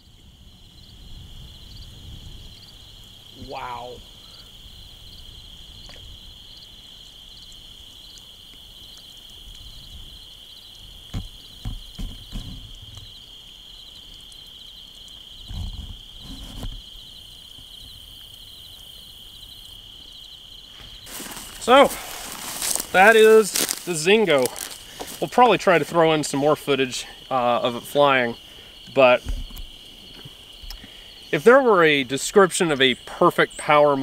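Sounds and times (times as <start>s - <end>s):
insect chirps: 0.0s - 34.0s
insects droning: 0.0s - 34.0s.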